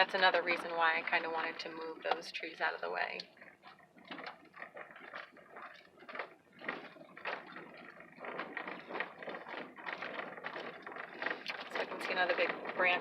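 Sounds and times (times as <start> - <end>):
vehicle rattling on rough road: 0.0 - 13.0.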